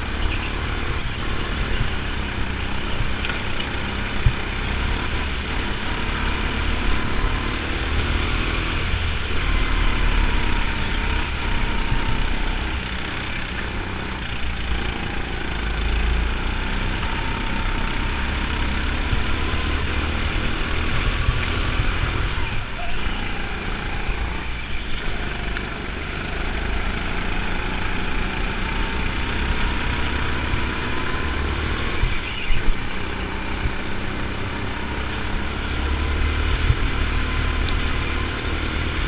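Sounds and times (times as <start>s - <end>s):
go-kart motor running: 0.0s - 39.0s
other karts' motors: 0.0s - 39.0s.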